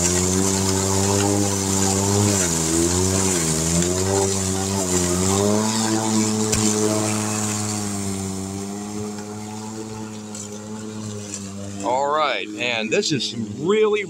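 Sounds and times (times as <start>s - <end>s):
electric mower motor hum: 0.0s - 14.0s.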